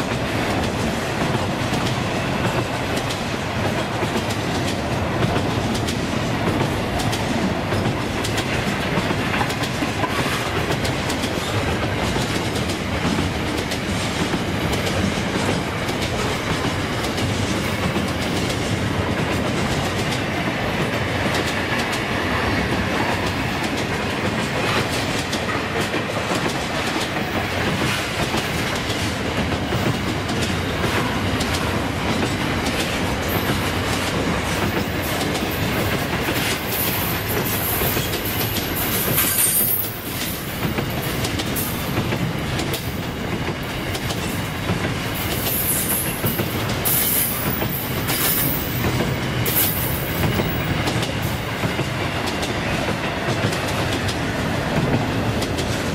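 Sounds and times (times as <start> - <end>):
freight train rumbling past: 0.0 - 55.9.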